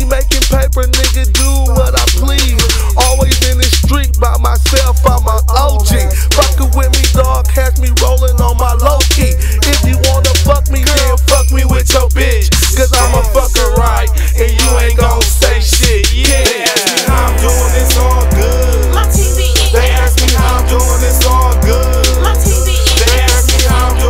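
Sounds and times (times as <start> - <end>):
hip hop beat: 0.0 - 24.0
person rapping: 0.0 - 24.0.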